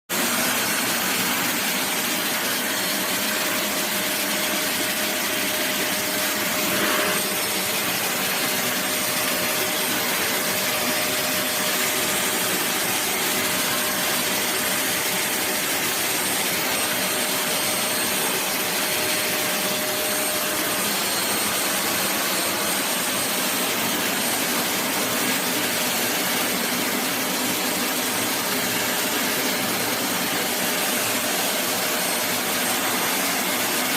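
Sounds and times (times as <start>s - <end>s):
vacuum cleaner running: 0.1s - 33.9s.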